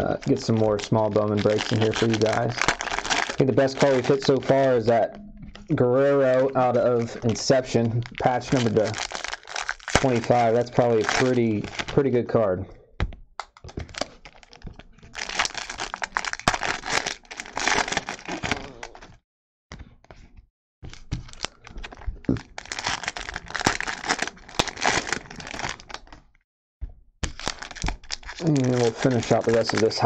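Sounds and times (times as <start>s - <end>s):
card pack wrappers tearing: 0.0s - 5.0s, 6.0s - 12.1s, 13.7s - 19.1s, 20.9s - 26.2s, 27.2s - 30.0s.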